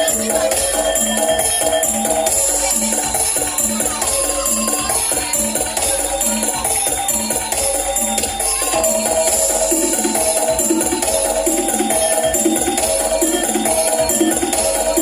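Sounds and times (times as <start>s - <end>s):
high rattling percussion: 0.0s - 15.0s
loud music with steady beat: 0.0s - 15.0s.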